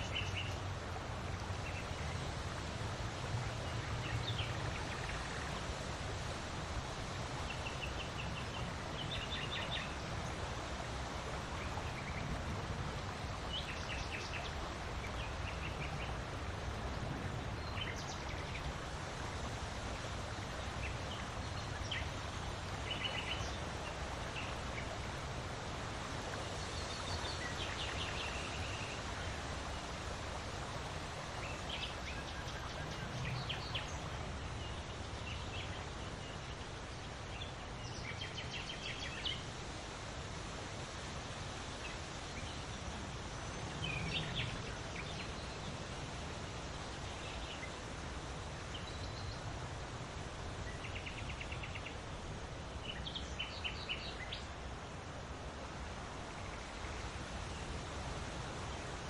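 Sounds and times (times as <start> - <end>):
wind blowing with low rumble: 0.0 - 59.0.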